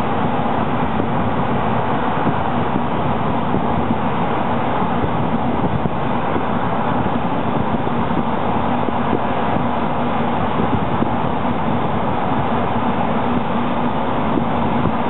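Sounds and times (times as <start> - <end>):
mechanical rumble with low hum: 0.0 - 15.0.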